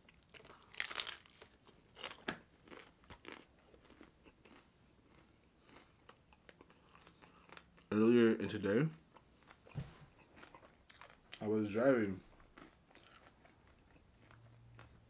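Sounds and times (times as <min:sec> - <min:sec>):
crunchy biting and chewing: 0:00.0 - 0:07.9, 0:09.2 - 0:11.4, 0:12.4 - 0:15.0.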